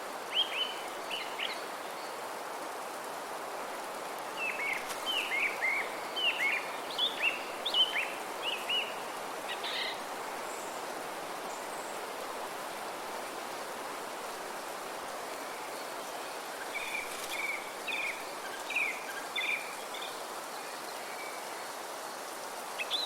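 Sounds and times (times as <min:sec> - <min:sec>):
wind through trees: 0:00.0 - 0:23.0.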